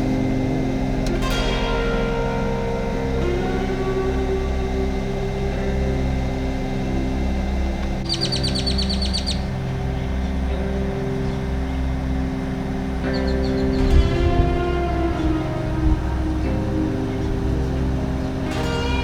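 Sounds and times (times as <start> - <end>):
sustained chord music: 0.0 - 19.0.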